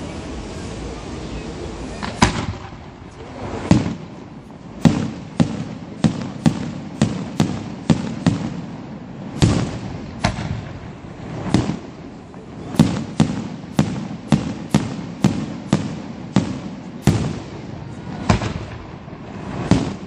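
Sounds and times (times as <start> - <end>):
firework shells bursting: 2.0 - 20.0.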